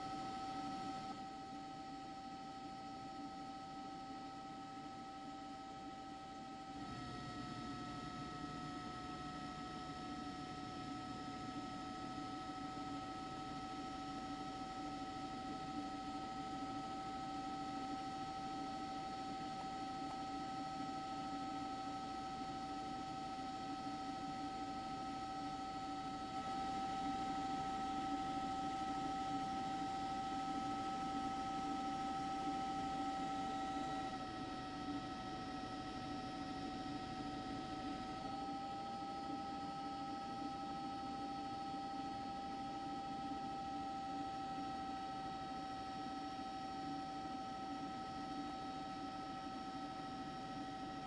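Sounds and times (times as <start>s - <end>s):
electrical hum with high whine: 0.0s - 51.0s.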